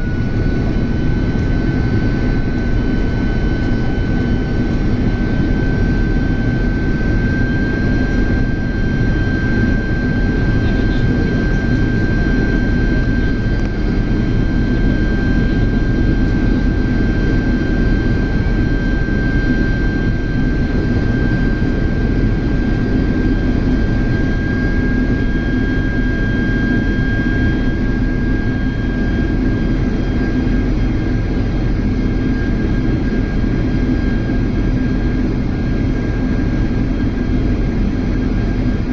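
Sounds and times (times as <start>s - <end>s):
high engine whine: 0.0s - 38.9s
jet engines rumbling in cabin: 0.0s - 38.9s.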